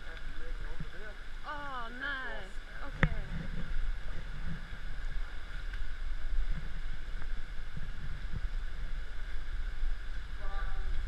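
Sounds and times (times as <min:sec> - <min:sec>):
water rushing: 0:00.0 - 0:11.0
wind rumble on microphone: 0:00.0 - 0:11.0.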